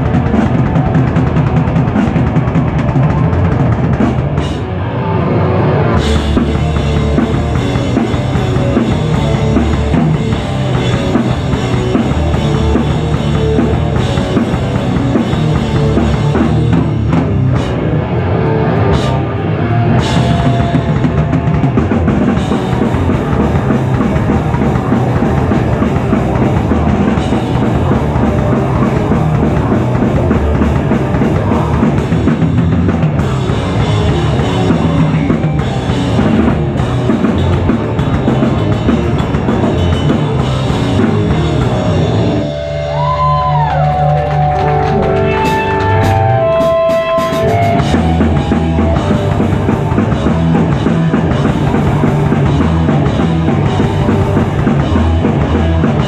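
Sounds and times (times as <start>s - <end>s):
bass guitar: 0.0s - 56.0s
distorted guitar: 0.0s - 56.0s
drums: 0.0s - 56.0s.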